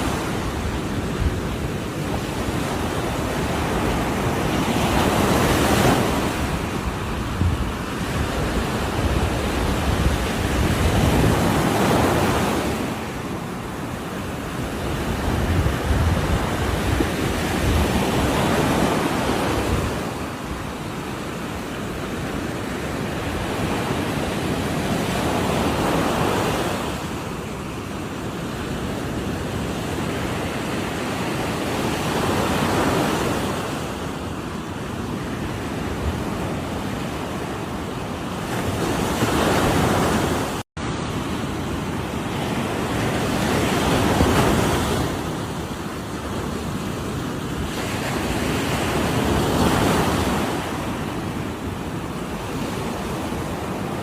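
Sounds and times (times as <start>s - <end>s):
waves breaking and washing ashore: 0.0s - 54.0s.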